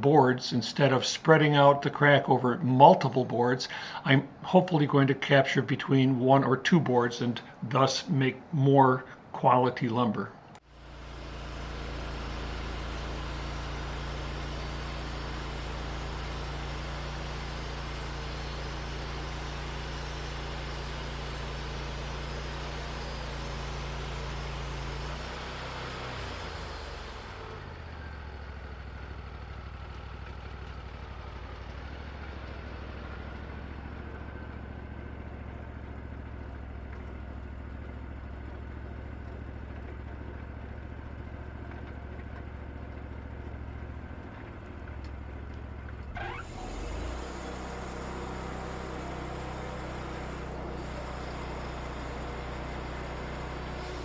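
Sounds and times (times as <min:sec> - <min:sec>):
sawmill engine running: 0:00.0 - 0:04.4, 0:10.6 - 0:54.0.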